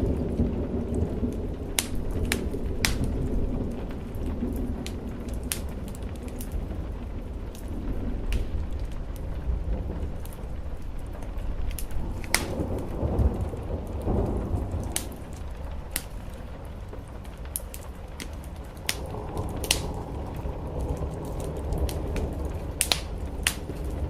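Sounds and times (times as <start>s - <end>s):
rain on a roof: 0.0s - 24.0s
wood fire crackling: 0.0s - 24.0s.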